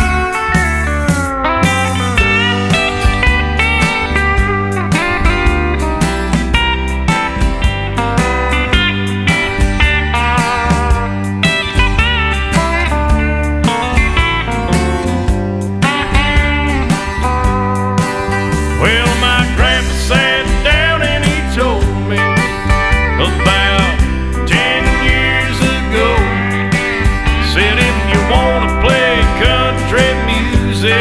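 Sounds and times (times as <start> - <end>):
bass and rhythm: 0.0 - 31.0
steel guitar sliding notes: 0.0 - 31.0.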